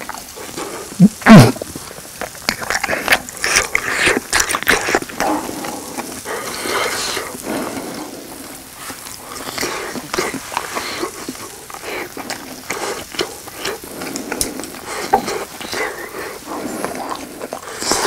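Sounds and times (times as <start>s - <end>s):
chewing squeaky cheese: 0.0s - 18.0s.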